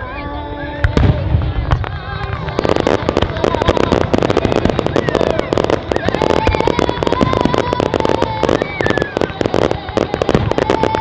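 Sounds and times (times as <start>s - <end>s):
whistling fireworks: 0.0s - 11.0s
fireworks crackling: 0.8s - 11.0s.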